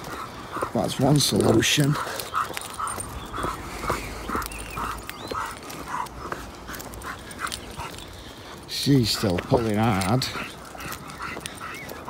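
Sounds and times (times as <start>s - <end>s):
puppy panting: 0.0s - 12.0s.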